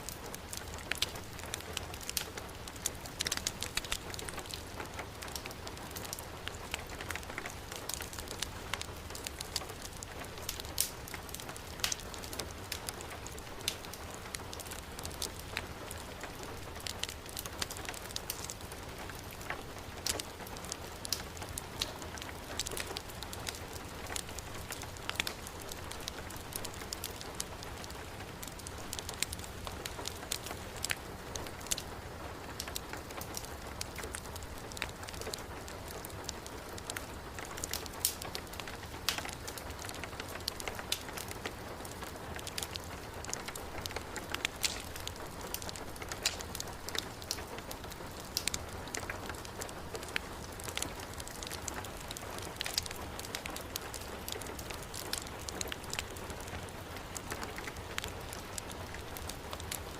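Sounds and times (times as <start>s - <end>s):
heavy rainfall: 0.0s - 59.9s
wood fire crackling and popping: 0.0s - 59.9s.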